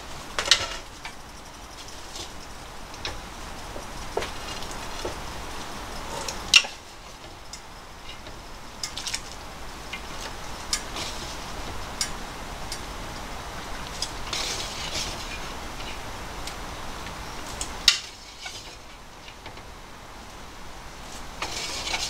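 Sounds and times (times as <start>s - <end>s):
boiling water hiss: 0.0s - 22.0s.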